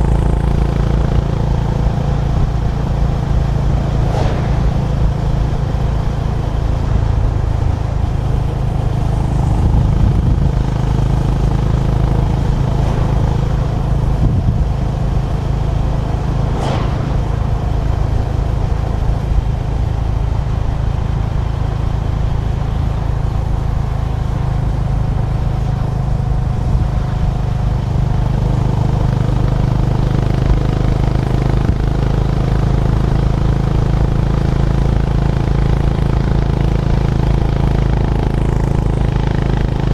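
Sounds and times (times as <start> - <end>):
low wind rumble: 0.0 - 35.4
motorcycle engine cruising: 0.0 - 39.9.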